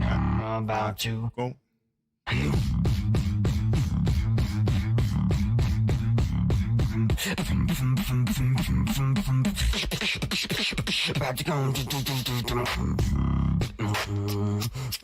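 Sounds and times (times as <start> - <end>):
beatboxing buzzing bass: 2.3 - 15.0
beatboxing mouth clicks and snares: 2.4 - 15.0.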